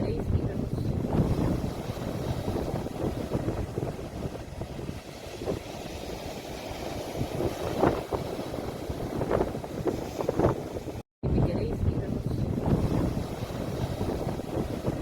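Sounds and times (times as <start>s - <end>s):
wind buffeting microphone: 0.0s - 15.0s
sea waves breaking on shore: 0.2s - 11.0s, 12.2s - 15.0s.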